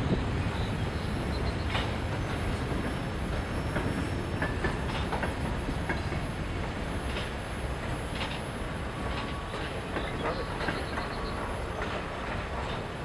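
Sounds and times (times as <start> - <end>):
train wheels rumbling on rails: 0.0 - 13.0
sharp rail clicks: 1.6 - 3.0, 3.7 - 12.9.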